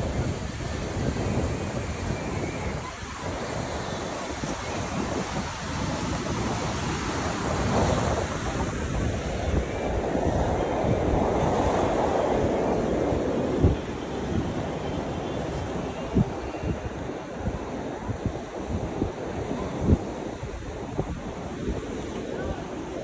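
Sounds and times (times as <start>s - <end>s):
sea waves breaking on shore: 0.0s - 23.0s
wind rumbling on microphone: 0.0s - 23.0s.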